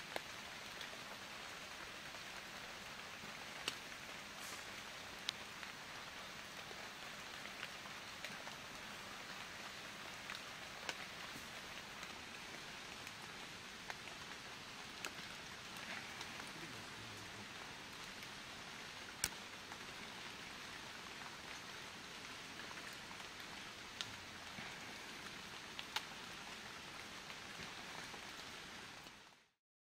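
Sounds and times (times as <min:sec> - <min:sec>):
light rain hissing: 0:00.0 - 0:29.6
raindrop ticks: 0:00.1 - 0:29.4.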